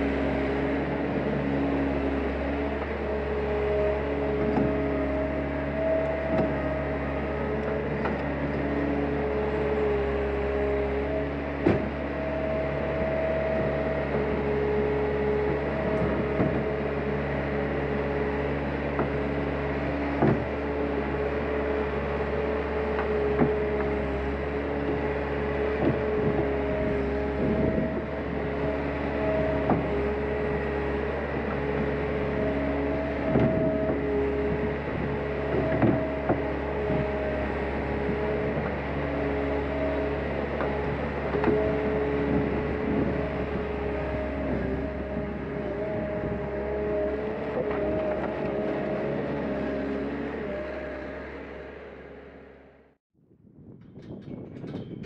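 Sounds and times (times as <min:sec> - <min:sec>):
whining machine tone: 0:00.0 - 0:52.9
skid-steer loader running: 0:00.0 - 0:53.0.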